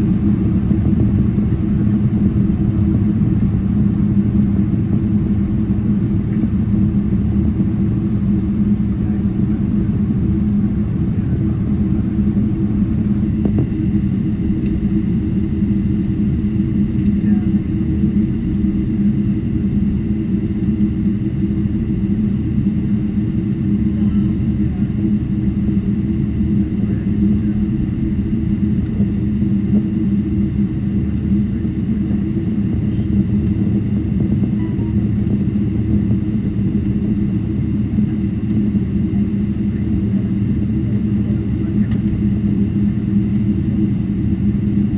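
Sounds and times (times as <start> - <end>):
airliner cabin rumble and hum: 0.0 - 44.9.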